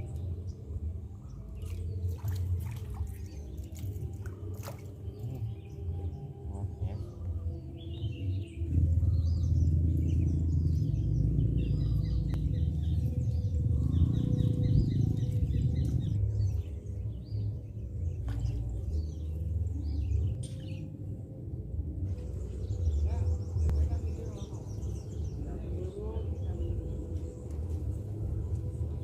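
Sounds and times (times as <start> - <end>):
small birds chirping: 0.0 - 21.0, 22.1 - 29.0
loud low rumble: 5.2 - 29.0.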